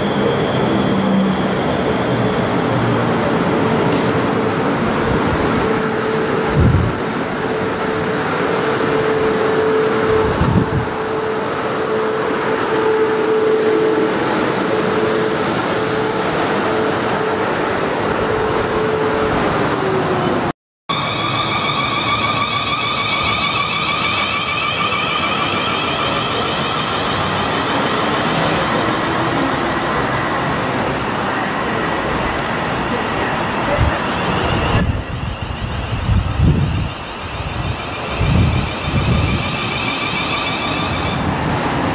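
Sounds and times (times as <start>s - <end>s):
electric train traction whine: 0.0s - 41.9s
wheels rumbling on rails: 0.0s - 41.9s.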